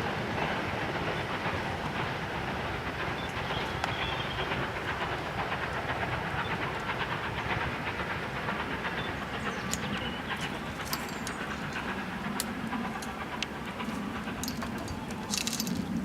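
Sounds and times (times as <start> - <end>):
steam hiss: 0.0 - 16.0
train wagons rumbling on rails: 0.0 - 16.0.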